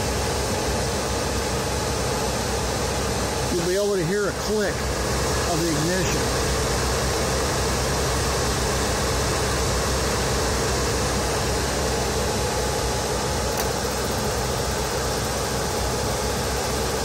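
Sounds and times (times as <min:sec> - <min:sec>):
furnace blower running: 0:00.0 - 0:17.0.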